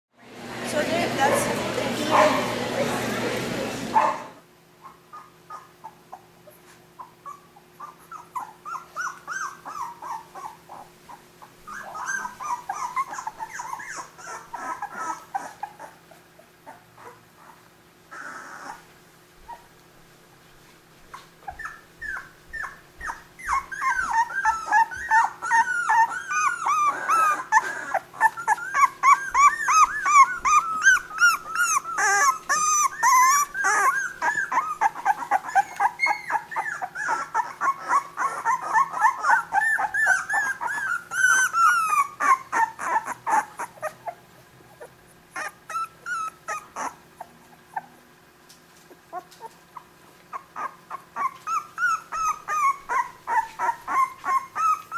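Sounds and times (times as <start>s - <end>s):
puppies whimpering and squeaking: 4.8s - 19.8s, 21.0s - 54.9s.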